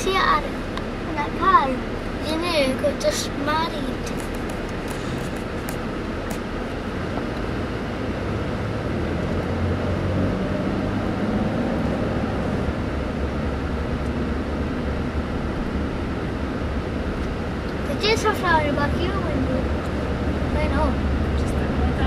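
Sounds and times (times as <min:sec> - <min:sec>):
car road noise and engine hum: 0:00.0 - 0:22.0.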